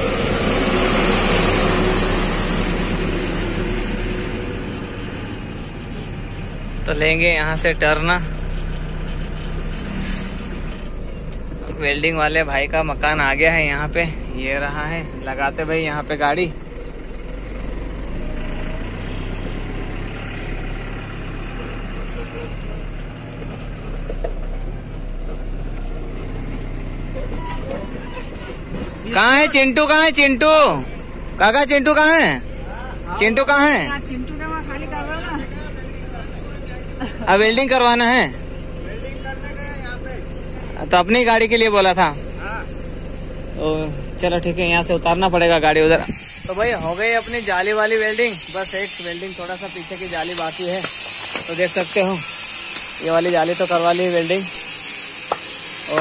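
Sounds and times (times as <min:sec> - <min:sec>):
truck overtaking: 0:00.0 - 0:56.0
vehicle engine and road noise: 0:00.0 - 0:56.0.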